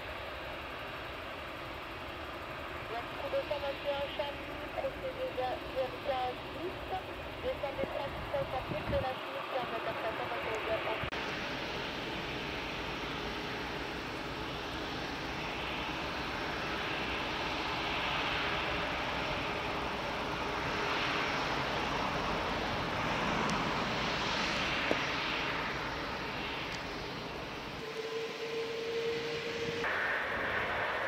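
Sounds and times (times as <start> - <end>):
jet engine high whine: 0.0 - 31.0
jet engines whooshing: 0.0 - 31.0.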